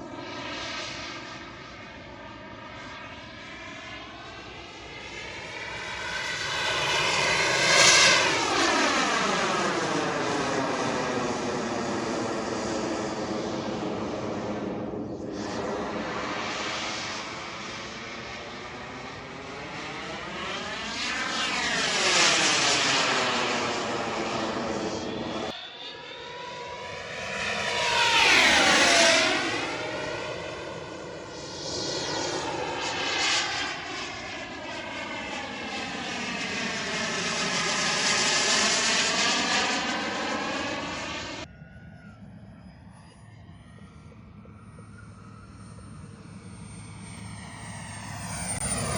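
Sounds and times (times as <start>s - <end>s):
jet whine: 0.0s - 48.9s
model jet flying past: 0.0s - 48.9s.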